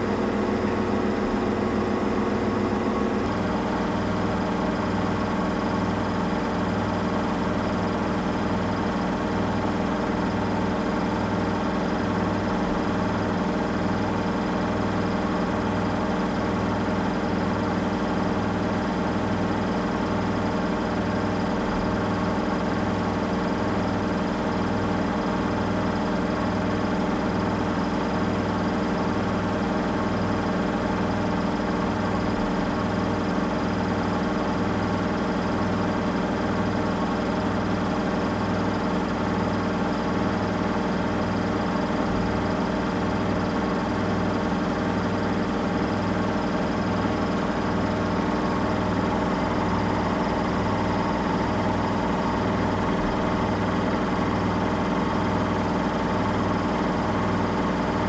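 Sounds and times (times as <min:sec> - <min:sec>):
washing machine running: 0:00.0 - 0:58.0.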